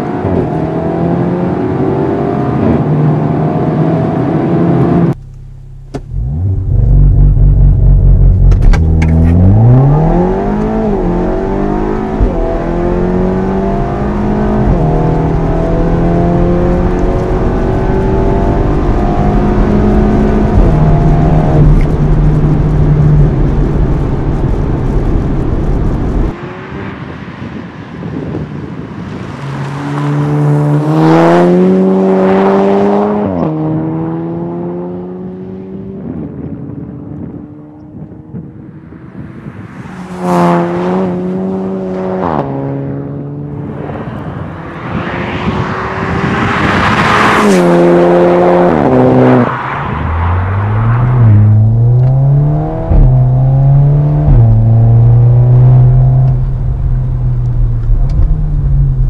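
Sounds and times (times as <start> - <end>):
car engine accelerating: 0.0 - 27.2, 28.6 - 59.0.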